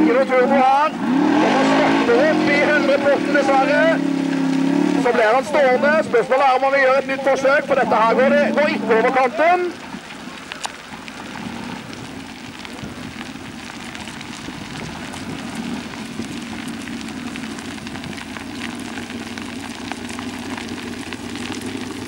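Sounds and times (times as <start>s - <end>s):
car engine droning: 0.0s - 22.0s
crackling and pattering: 0.0s - 22.0s.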